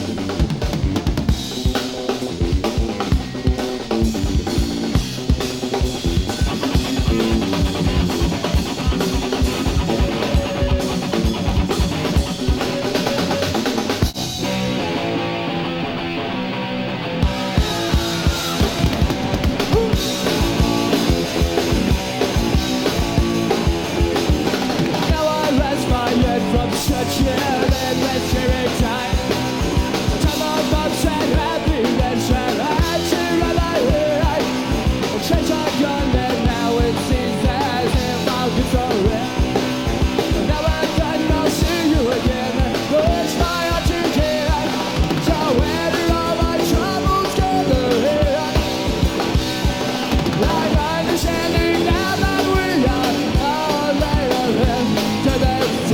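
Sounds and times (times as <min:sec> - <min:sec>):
drum kit beat: 0:00.0 - 0:15.4, 0:17.2 - 0:55.9
bass guitar: 0:00.0 - 0:55.9
electric guitar: 0:00.0 - 0:55.9.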